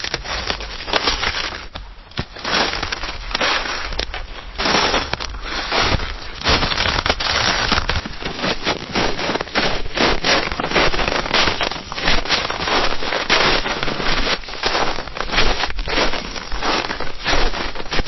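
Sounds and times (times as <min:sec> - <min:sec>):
footsteps crunching snow: 0:00.0 - 0:18.0.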